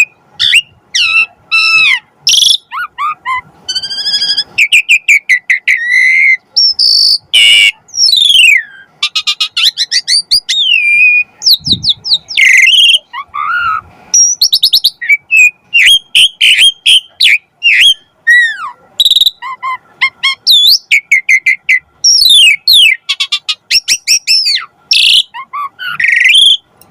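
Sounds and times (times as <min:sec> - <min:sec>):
starling singing: 0:00.0 - 0:26.9.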